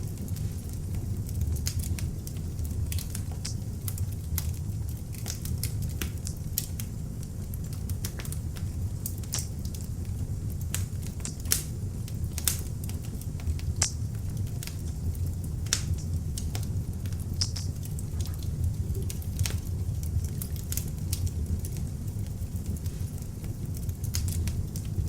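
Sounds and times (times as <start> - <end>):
log fire crackling and popping: 0.0 - 25.0
low rumble of flames: 0.0 - 25.0.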